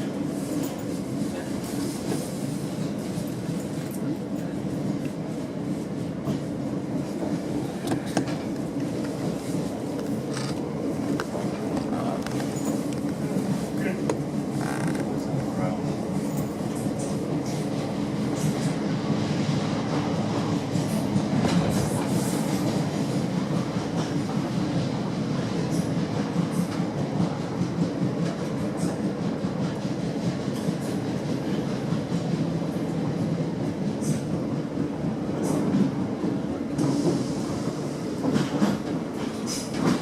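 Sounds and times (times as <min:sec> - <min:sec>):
train traction hum: 0:00.0 - 0:40.0
train wheels rumbling: 0:00.0 - 0:40.0.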